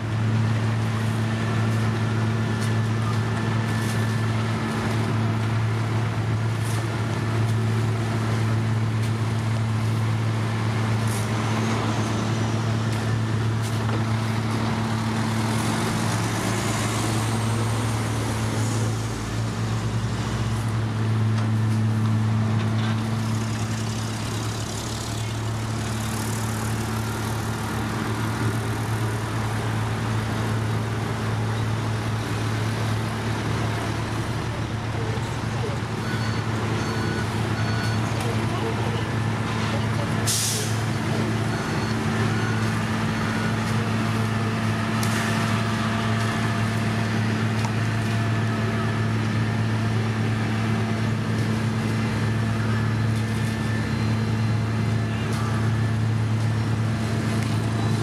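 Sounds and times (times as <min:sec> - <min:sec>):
diesel engines humming: 0:00.0 - 0:58.0.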